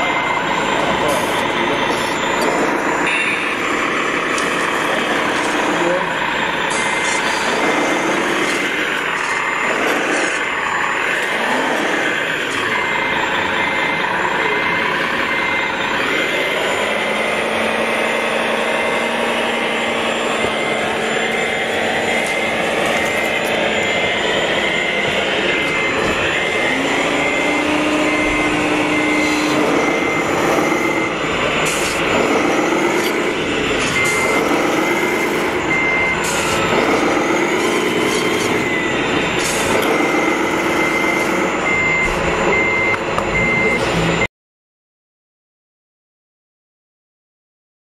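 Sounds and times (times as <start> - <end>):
diesel engine running and revving: 0.0 - 44.3
reversing beeper: 0.0 - 44.3.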